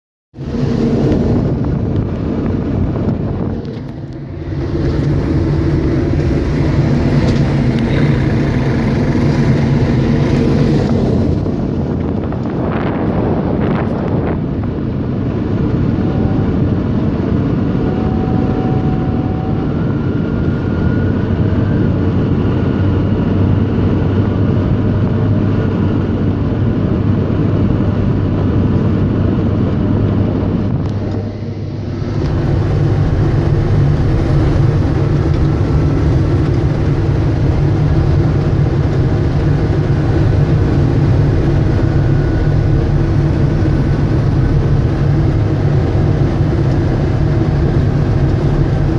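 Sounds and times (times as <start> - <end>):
diesel engine running under load: 0.4 - 48.9.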